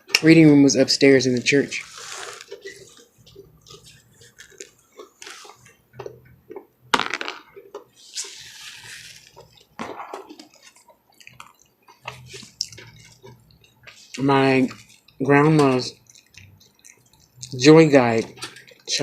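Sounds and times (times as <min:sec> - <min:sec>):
wet chewing and lip-smacking: 0:01.8 - 0:06.8, 0:07.6 - 0:19.0.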